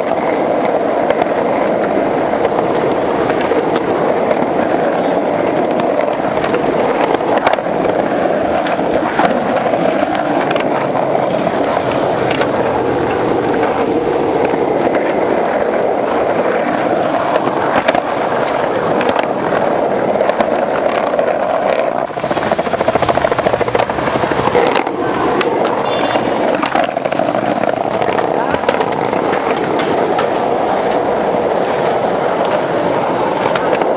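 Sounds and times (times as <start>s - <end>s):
skateboard wheels rumbling: 0.0s - 33.9s.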